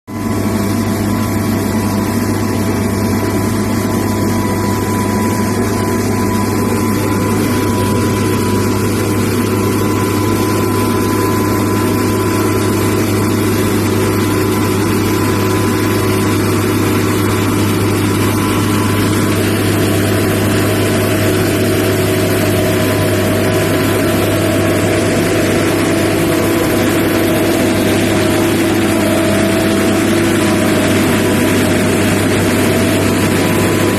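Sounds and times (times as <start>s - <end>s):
diesel engine droning: 0.2s - 33.9s.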